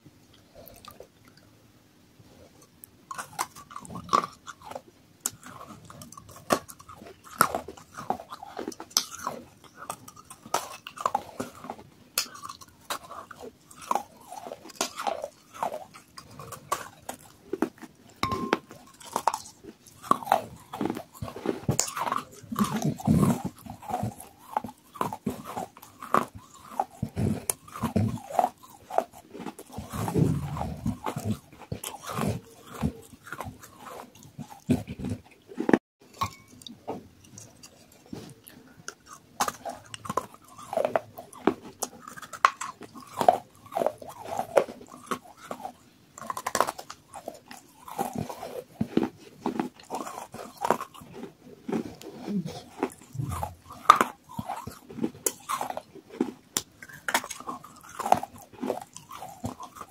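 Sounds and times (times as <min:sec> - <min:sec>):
crunching and chewing: 0:00.2 - 0:01.6, 0:02.2 - 0:59.9.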